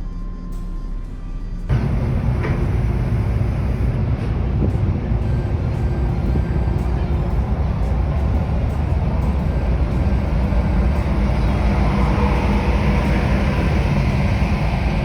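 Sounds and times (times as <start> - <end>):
ferry engines rumbling: 1.7 - 15.0.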